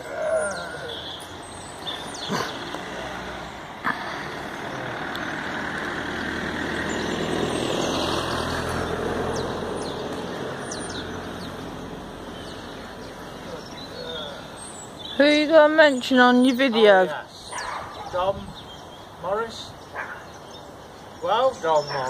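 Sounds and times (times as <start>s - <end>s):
motor vehicle passing: 0.0s - 22.0s.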